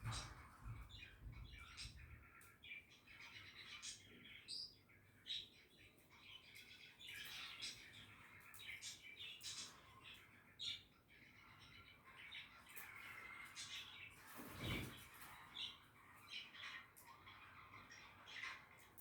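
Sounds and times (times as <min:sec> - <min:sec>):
budgerigars chirping: 0:00.0 - 0:18.9.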